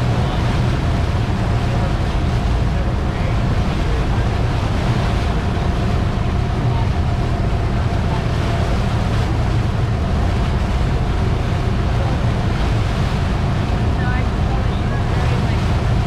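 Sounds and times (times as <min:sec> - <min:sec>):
churning boat wake: 0:00.0 - 0:16.0
motorboat engine: 0:00.0 - 0:16.0
wind buffeting microphone: 0:00.0 - 0:16.0.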